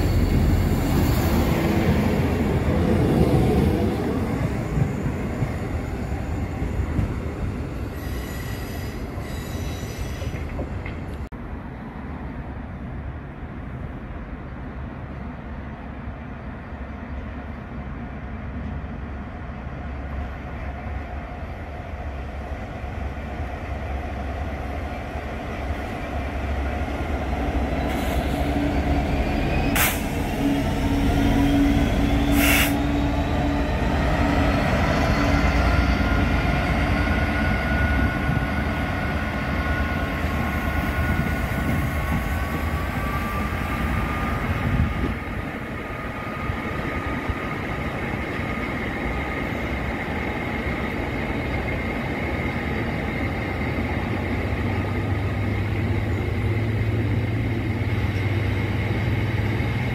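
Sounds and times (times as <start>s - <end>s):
diesel locomotive engine droning: 0.0s - 59.9s.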